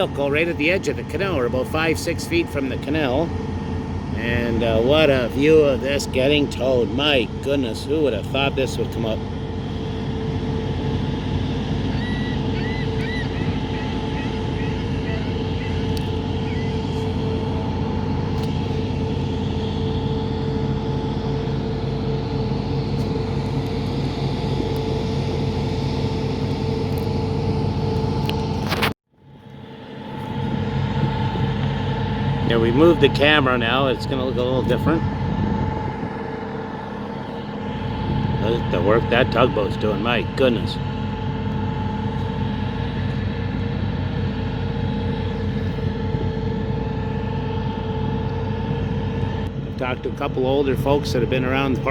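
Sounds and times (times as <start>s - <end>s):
engine drone: 0.0s - 51.9s.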